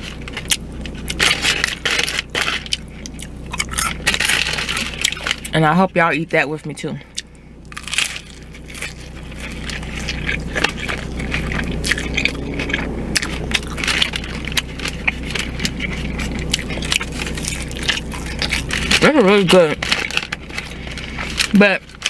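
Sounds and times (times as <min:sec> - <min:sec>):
chewing crunchy taco shell: 0:00.0 - 0:22.0.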